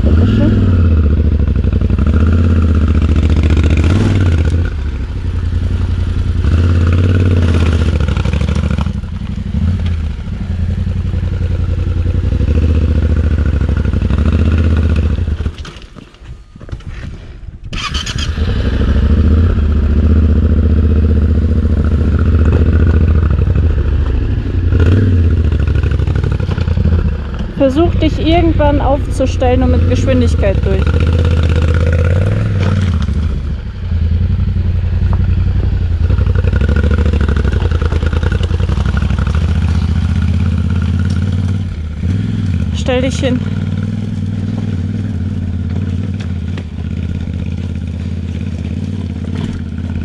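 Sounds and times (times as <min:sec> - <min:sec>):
motorcycle engine revving: 0:00.0 - 0:15.9, 0:17.7 - 0:50.0.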